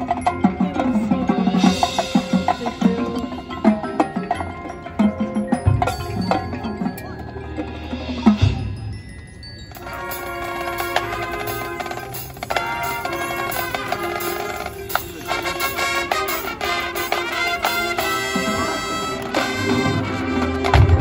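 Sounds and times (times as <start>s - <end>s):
mallet percussion ringing notes: 0.0s - 21.0s
marching band music: 0.0s - 21.0s.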